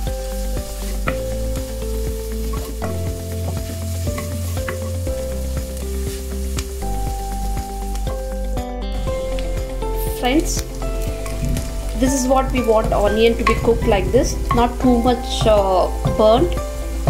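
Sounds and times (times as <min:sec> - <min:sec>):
background music with held notes: 0:00.0 - 0:17.0
vegetables sizzling in hot oil: 0:00.0 - 0:17.0.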